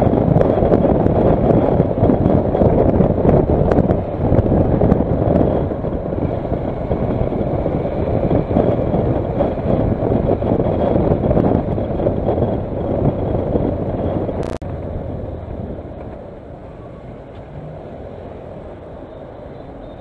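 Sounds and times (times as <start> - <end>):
motorcycle engine and tyre noise: 0.0 - 20.0
wind rushing over microphone: 0.0 - 20.0.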